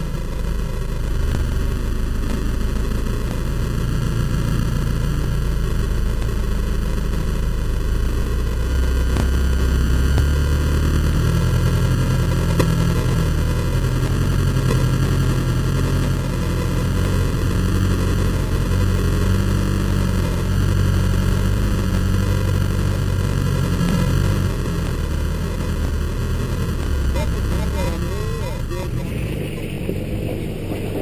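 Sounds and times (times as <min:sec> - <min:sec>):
rumble and noise on camera: 0:00.0 - 0:31.0
vehicle engine droning uphill: 0:00.0 - 0:31.0.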